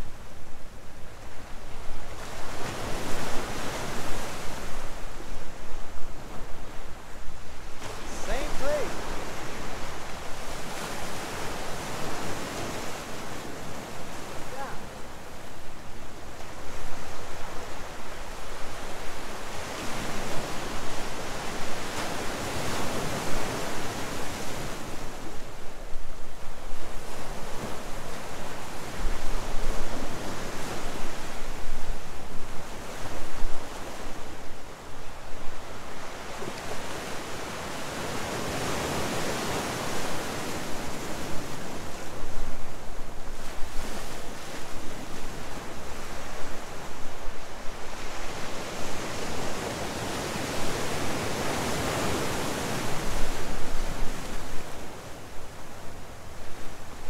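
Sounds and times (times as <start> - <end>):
ocean surf breaking on rocks: 1.4 - 5.4, 6.2 - 25.6, 26.8 - 57.0.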